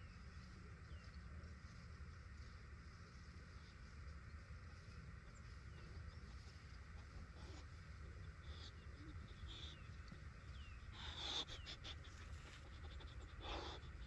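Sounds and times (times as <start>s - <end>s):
small birds chirping: 0.0s - 1.8s, 2.4s - 14.0s
low steady rumble: 0.0s - 14.0s.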